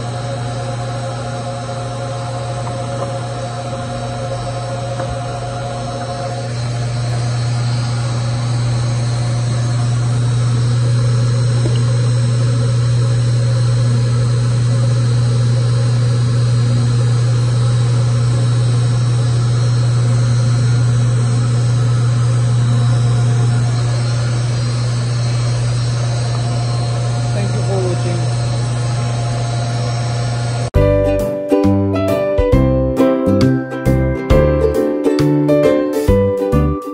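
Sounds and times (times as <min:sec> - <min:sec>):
juicer motor humming: 0:00.0 - 0:30.9.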